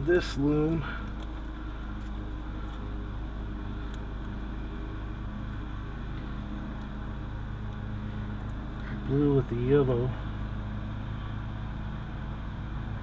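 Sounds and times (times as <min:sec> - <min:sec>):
steady low rumble and hum: 0:00.0 - 0:13.0.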